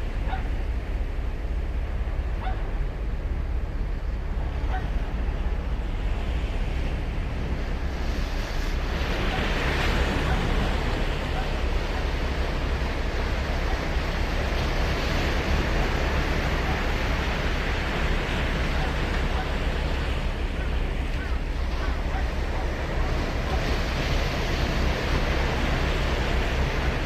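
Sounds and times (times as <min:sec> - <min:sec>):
waves breaking on shore: 0:00.0 - 0:27.0
wind rumble on microphone: 0:00.0 - 0:27.0.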